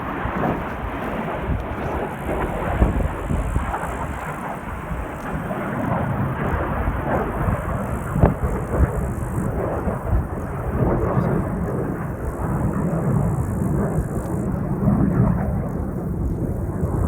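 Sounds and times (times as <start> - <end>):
jet aircraft roar: 0.0 - 17.0.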